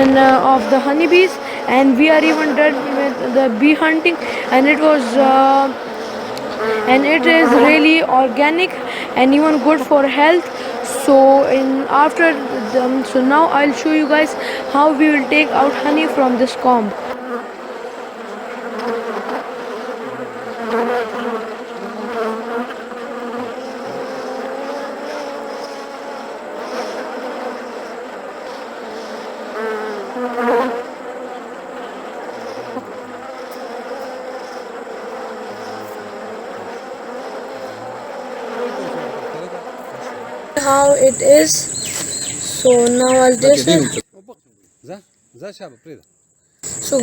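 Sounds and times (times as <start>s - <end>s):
honey bees buzzing: 0.0s - 44.0s, 46.6s - 47.0s.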